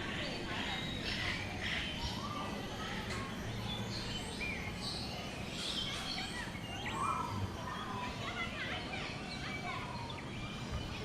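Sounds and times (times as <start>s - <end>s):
birds chirping and whistling: 0.0s - 11.0s
steady background noise: 0.0s - 11.0s.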